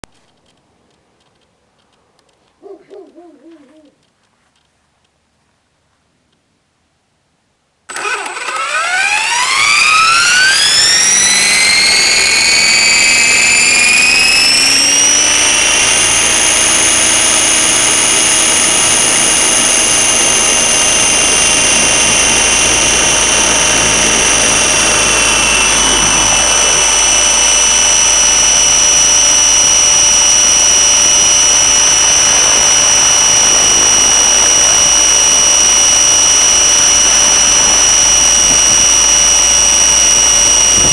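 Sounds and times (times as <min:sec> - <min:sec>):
rc helicopter motor whine: 0:07.9 - 0:40.9.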